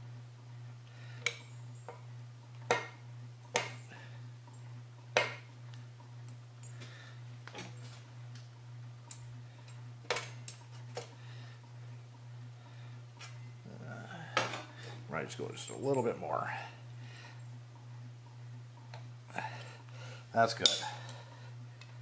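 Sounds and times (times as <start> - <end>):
background hum: 0.0 - 22.0.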